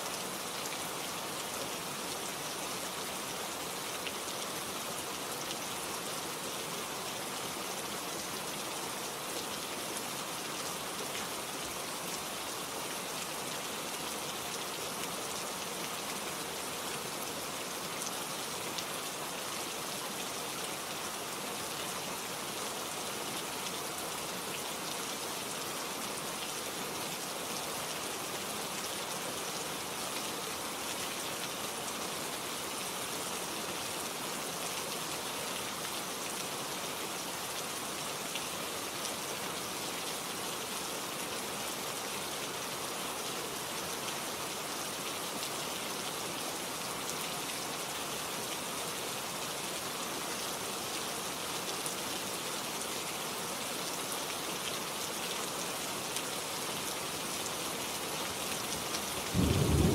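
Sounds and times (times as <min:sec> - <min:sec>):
rain pattering on leaves: 0:00.1 - 0:59.9.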